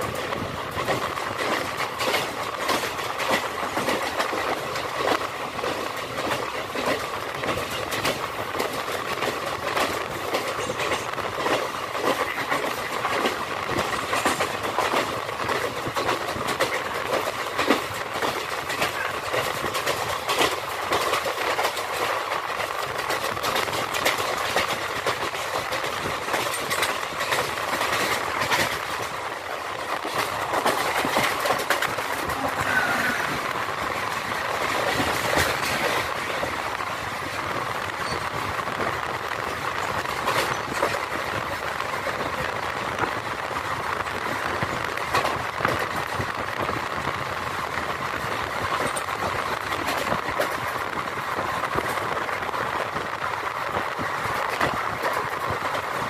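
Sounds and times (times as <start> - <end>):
train wheel and wind rush: 0.0 - 56.0
wheels clicking over rail joints: 0.0 - 56.0.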